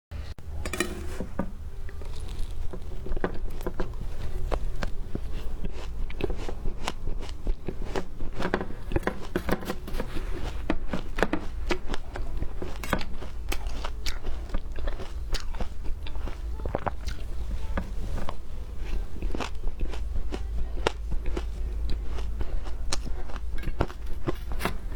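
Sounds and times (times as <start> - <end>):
ice being chewed: 1.8 - 24.9.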